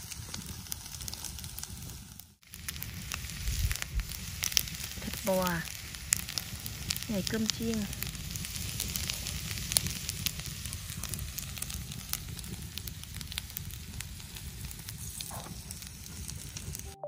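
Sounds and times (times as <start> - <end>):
food sizzling over fire: 0.0 - 17.0
sharp pops from fire: 0.0 - 17.0
wood fire crackling: 0.0 - 17.0.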